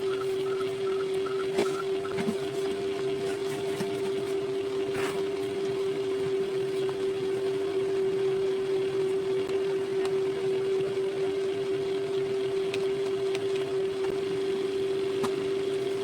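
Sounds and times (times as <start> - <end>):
fan motor humming: 0.0 - 16.0.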